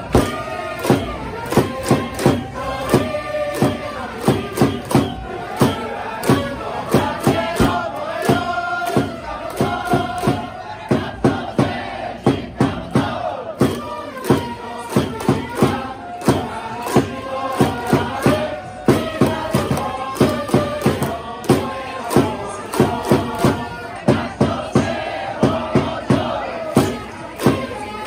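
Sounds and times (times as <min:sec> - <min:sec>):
crowd singing in unison: 0:00.0 - 0:28.0.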